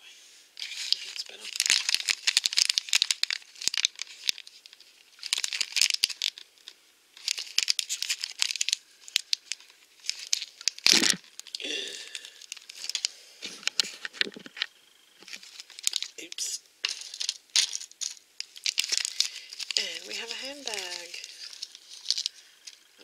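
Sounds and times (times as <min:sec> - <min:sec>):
plastic bag crinkling and tearing: 0:00.6 - 0:23.0.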